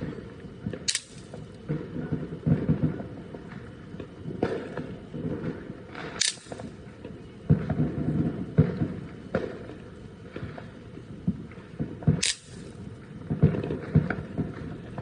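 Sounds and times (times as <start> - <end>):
fireworks popping and thumping: 0.0 - 15.0
sharp firework crack: 0.0 - 15.0.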